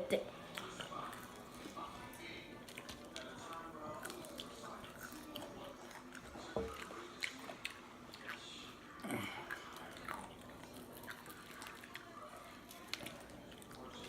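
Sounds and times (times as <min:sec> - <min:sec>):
chewing and biting fried food: 0:00.4 - 0:14.0.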